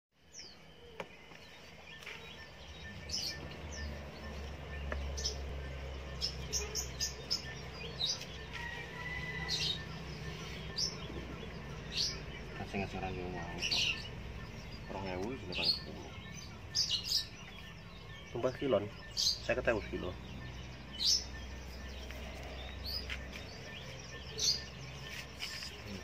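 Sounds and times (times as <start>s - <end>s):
birds chirping: 0.2s - 26.0s.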